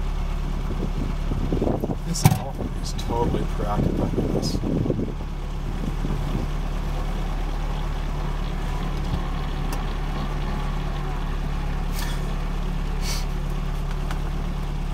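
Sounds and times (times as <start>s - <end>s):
vehicle engine idling: 0.0s - 14.9s.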